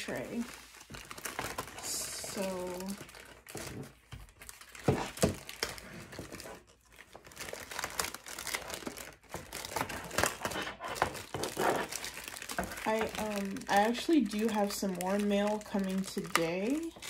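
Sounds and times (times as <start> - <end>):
packaging crinkling and rustling: 0.0 - 17.0
packaging snapping and tearing: 1.0 - 17.0.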